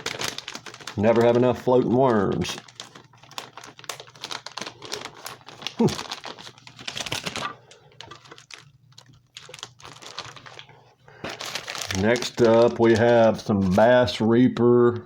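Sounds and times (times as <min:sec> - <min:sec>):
plastic packaging clicks and rustles: 0:00.0 - 0:14.2.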